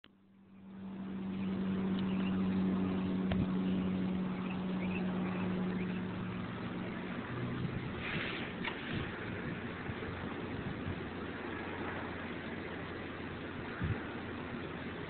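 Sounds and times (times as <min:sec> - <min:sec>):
steady motor hum: 0:00.0 - 0:15.0.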